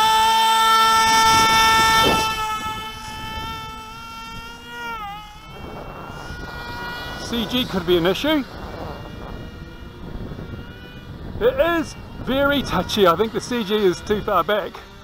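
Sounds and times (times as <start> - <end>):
electric motor propeller whine: 0.0 - 15.0
wind noise on microphone: 0.0 - 15.0.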